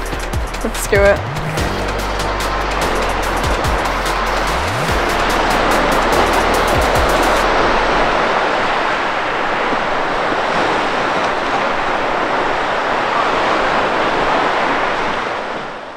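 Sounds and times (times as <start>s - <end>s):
wind: 0.0s - 15.9s
surf breaking on beach: 0.7s - 15.9s.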